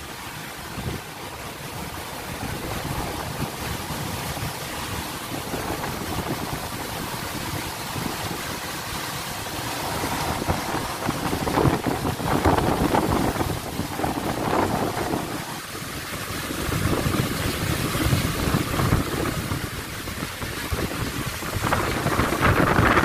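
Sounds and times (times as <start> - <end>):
heavy rain: 0.0 - 23.0
strong wind: 0.0 - 23.0.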